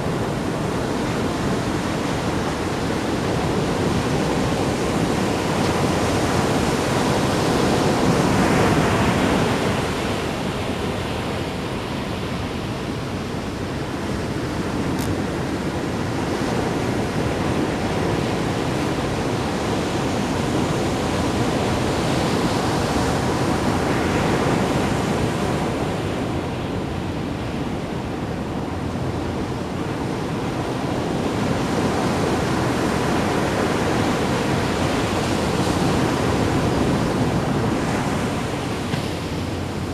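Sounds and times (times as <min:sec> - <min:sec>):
ocean waves splashing: 0:00.0 - 0:39.9.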